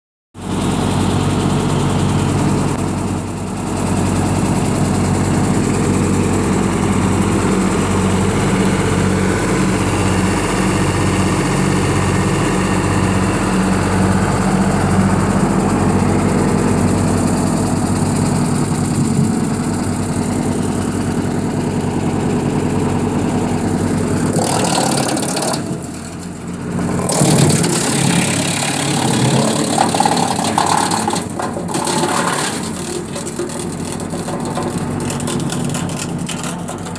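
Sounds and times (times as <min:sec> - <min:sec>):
tractor engine running: 0:00.4 - 0:36.9.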